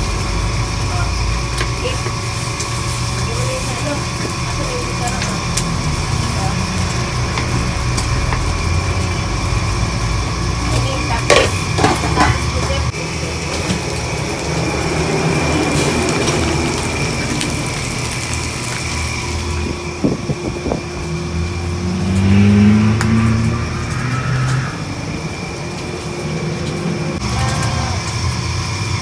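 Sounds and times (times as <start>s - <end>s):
low kitchen rumble: 0.0s - 29.0s
meat and rice stir-frying: 0.0s - 29.0s.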